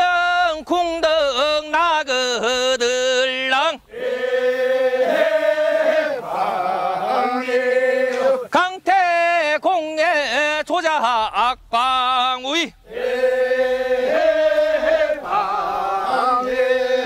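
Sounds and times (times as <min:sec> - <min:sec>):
men singing work song: 0:00.0 - 0:17.0.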